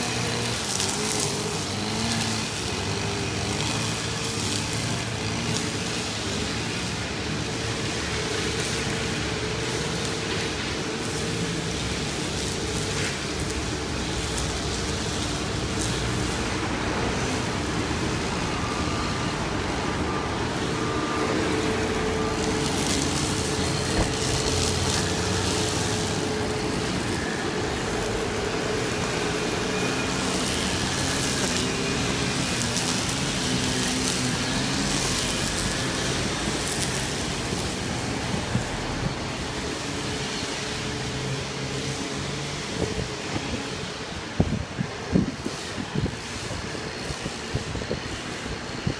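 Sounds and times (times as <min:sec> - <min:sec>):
road traffic noise: 0:00.0 - 0:48.9
tram going by: 0:00.0 - 0:48.9.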